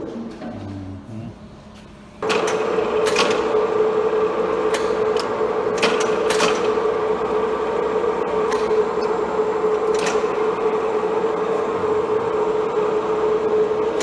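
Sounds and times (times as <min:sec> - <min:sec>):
milling machine whining: 0:01.6 - 0:14.0.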